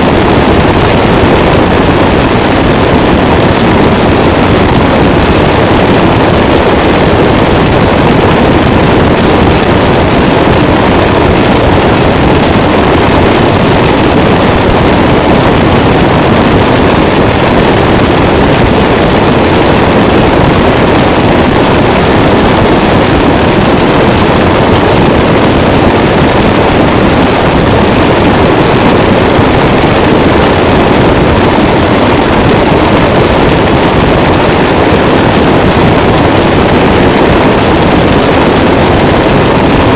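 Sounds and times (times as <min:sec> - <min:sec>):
distorted static noise wall: 0:00.0 - 0:39.9.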